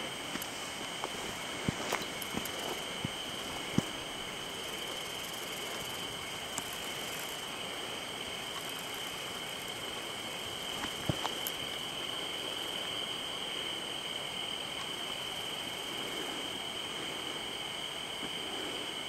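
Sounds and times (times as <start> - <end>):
night insects trilling: 0.0 - 19.0.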